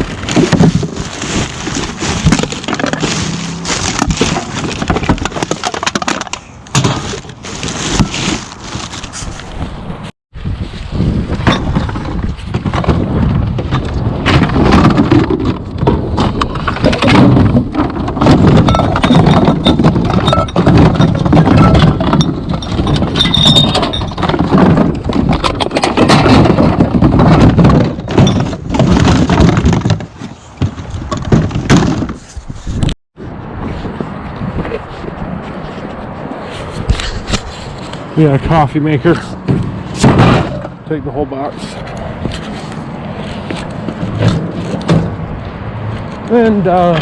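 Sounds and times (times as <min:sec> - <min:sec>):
knocks and clatters: 0:00.0 - 0:09.4, 0:11.3 - 0:33.0, 0:36.7 - 0:45.3.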